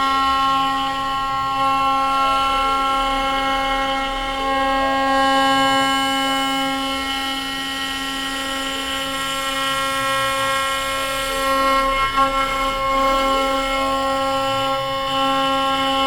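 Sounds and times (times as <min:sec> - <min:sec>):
router spindle cutting wood: 0:00.1 - 0:16.0.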